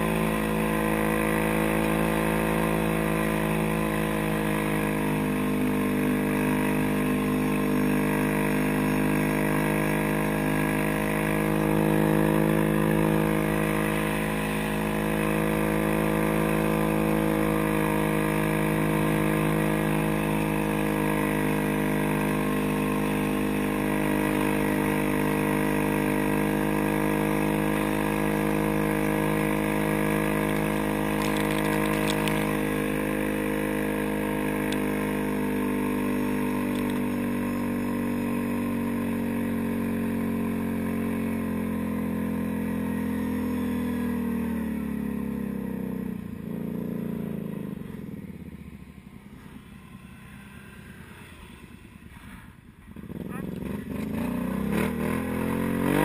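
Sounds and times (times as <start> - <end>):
tracked vehicle engine running: 0.0 - 56.0.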